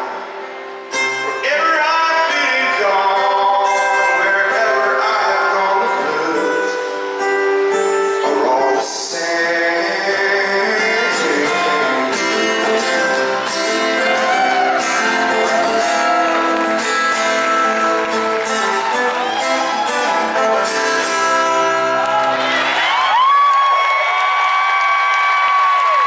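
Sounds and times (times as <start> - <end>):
strummed acoustic guitar: 0.0 - 22.7
live band music: 0.0 - 23.2
person singing: 1.0 - 22.4.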